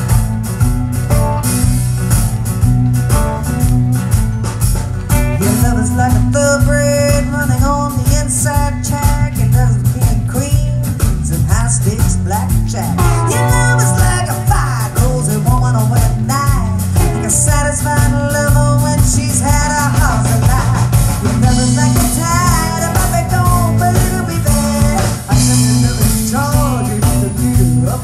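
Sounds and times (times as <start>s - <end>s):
live rock band playing: 0.0s - 28.0s
woman singing: 5.4s - 28.0s.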